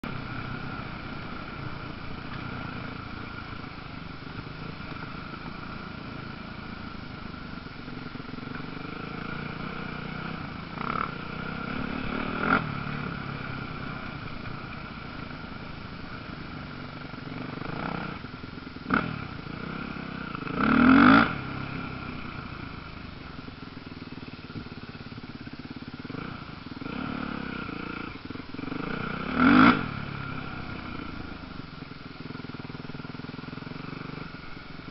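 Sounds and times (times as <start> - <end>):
distant motorcycle engines: 0.0 - 34.9
motorcycles passing by: 0.0 - 34.9.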